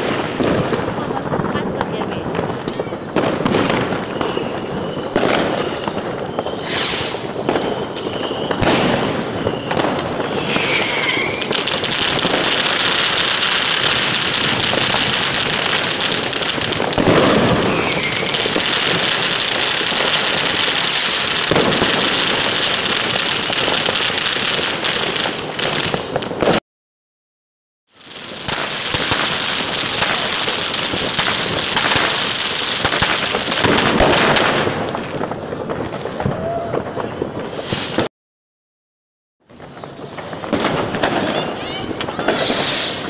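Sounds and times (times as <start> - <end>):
firecrackers crackling: 0.0 - 26.6, 27.9 - 38.1, 39.4 - 43.0
firework bangs: 0.0 - 26.6, 27.9 - 38.1, 39.4 - 43.0
whistling fireworks: 0.0 - 26.6, 27.9 - 38.1, 39.4 - 43.0.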